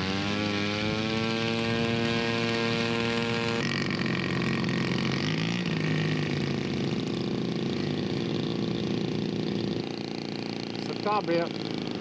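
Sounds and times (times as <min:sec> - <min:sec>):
model aircraft engine buzzing: 0:00.0 - 0:12.0.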